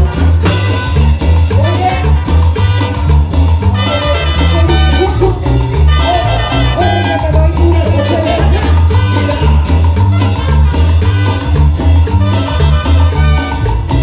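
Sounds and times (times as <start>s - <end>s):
live cumbia band playing: 0.0s - 14.0s
trumpets: 0.0s - 14.0s.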